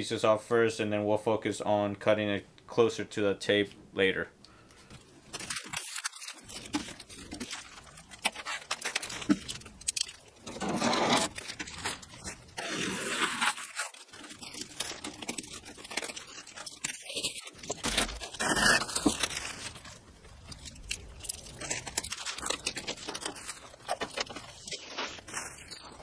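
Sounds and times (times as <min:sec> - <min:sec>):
plastic film crinkling: 0:04.8 - 0:26.0.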